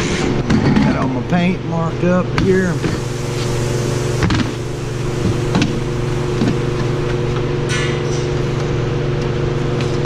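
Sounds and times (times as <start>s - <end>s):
machine humming: 1.2s - 10.0s.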